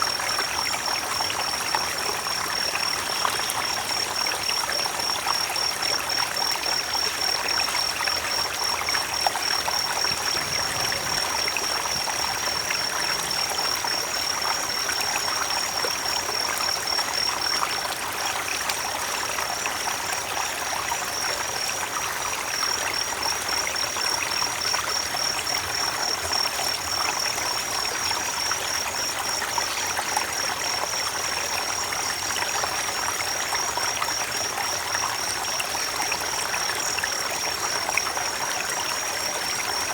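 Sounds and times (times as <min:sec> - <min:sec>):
creek water trickling over stones: 0:00.0 - 0:39.9.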